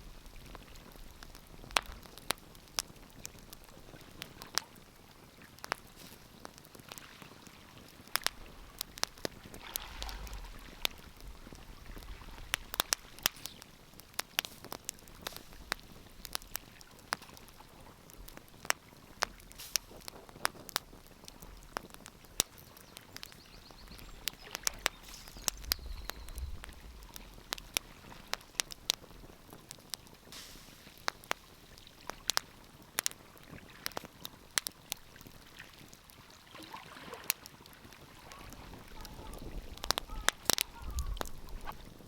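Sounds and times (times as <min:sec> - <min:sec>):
wood fire crackling and popping: 0:00.0 - 0:36.4, 0:37.3 - 0:42.0.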